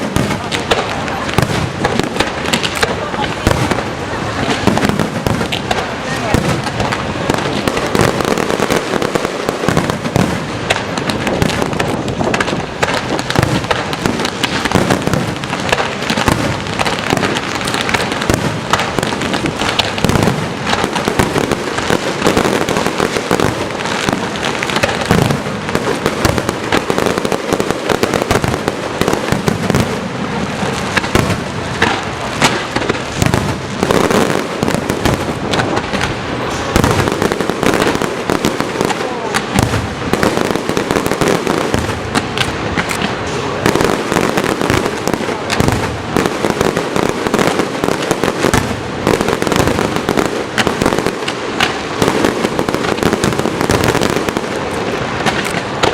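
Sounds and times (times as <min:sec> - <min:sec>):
fireworks cracking and popping: 0:00.0 - 0:55.9.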